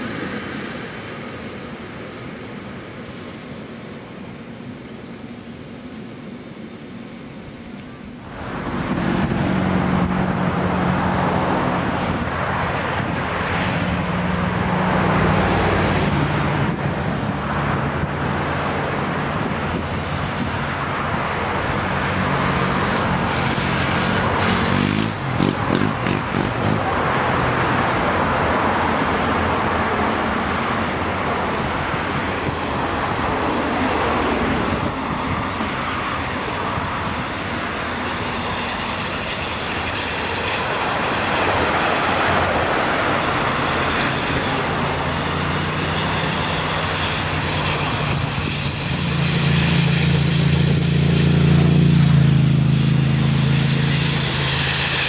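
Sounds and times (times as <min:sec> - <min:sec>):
rush of traffic noise: 0:00.0 - 0:55.0
vehicle engine hum: 0:00.0 - 0:55.0
vehicle passing close by: 0:08.2 - 0:55.0.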